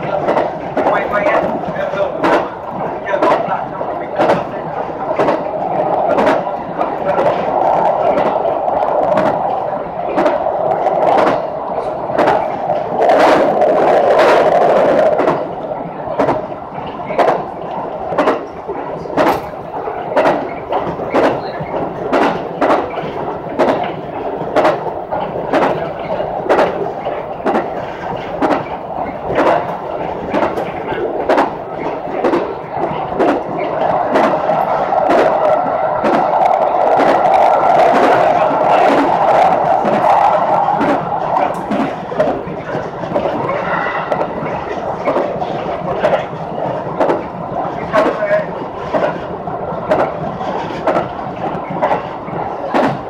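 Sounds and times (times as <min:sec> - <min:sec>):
train running drone: 0:00.0 - 0:53.0
wheels clicking over rail joints: 0:00.0 - 0:53.0.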